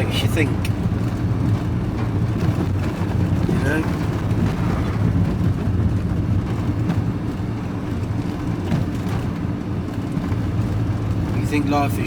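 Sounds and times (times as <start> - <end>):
lorry engine and road noise: 0.0 - 12.0.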